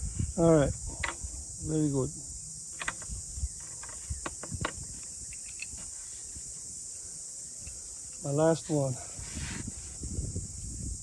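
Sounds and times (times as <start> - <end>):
steady high-pitched hiss: 0.0 - 11.0.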